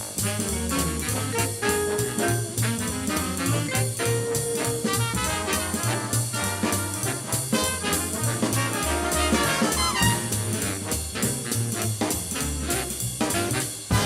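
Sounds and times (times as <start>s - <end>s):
big band jazz with brass: 0.0s - 14.0s.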